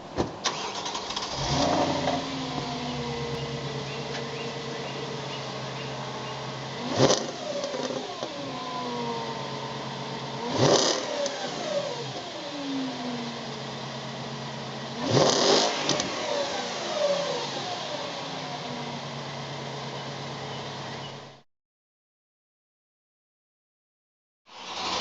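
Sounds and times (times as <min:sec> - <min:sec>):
car engine idling and revving: 0:00.0 - 0:21.4, 0:24.5 - 0:25.0.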